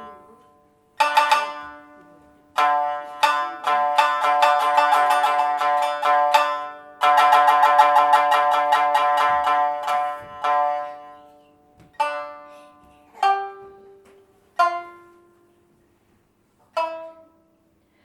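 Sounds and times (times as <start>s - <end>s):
plucked string notes: 0.0s - 15.8s, 16.6s - 17.9s.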